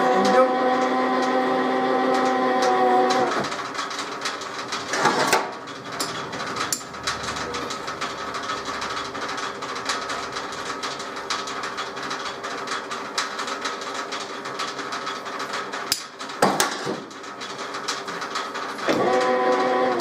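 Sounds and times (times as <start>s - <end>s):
lathe gear hum: 0.0s - 20.0s.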